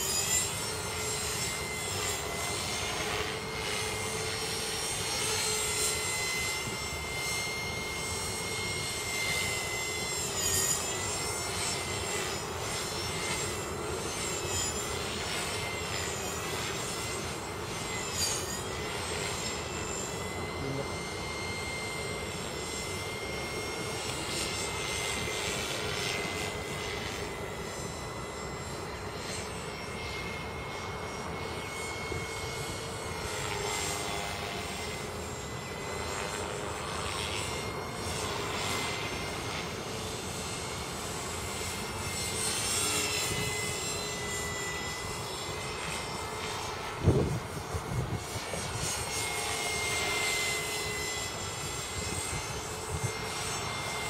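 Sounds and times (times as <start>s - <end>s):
electric motor whine: 0.0s - 54.0s.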